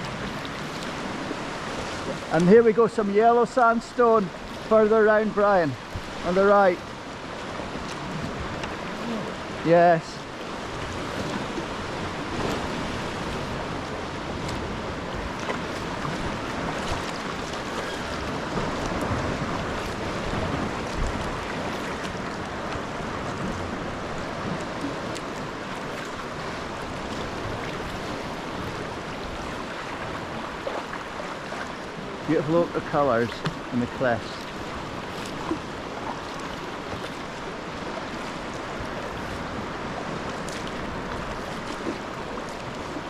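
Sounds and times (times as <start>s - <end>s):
water lapping around kayak: 0.0s - 43.0s.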